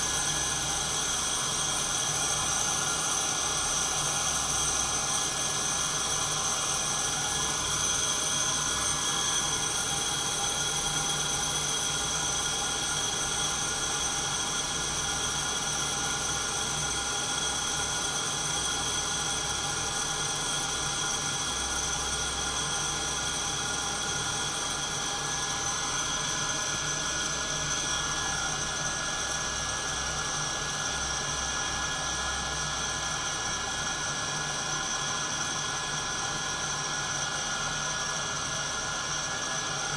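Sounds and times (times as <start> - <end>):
coffee roaster fan whirring: 0.0 - 39.9.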